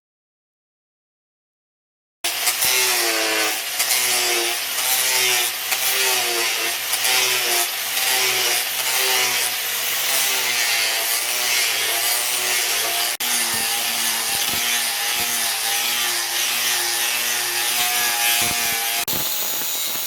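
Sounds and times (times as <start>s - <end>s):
hand saw cutting wood: 2.3s - 20.0s.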